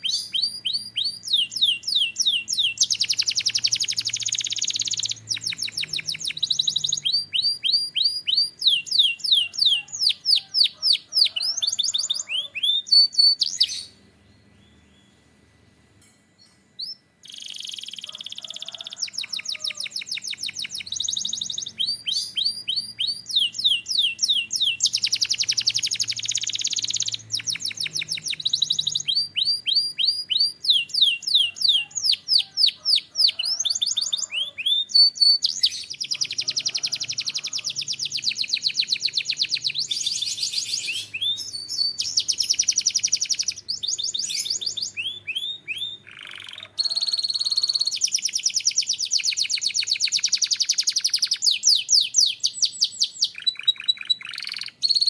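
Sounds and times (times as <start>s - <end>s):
canary singing trills: 0.0s - 15.3s, 16.4s - 55.0s.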